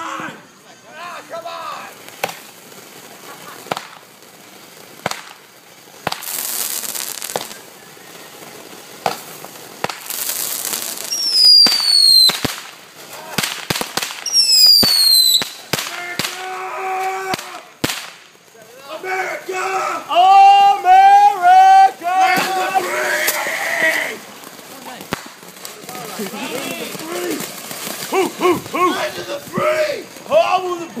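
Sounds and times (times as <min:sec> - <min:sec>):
firework hissing sprays: 0:00.0 - 0:31.0
fireworks cracking and popping: 0:00.0 - 0:31.0
falling firework whistle: 0:01.7 - 0:04.2, 0:04.9 - 0:18.3, 0:20.1 - 0:30.2.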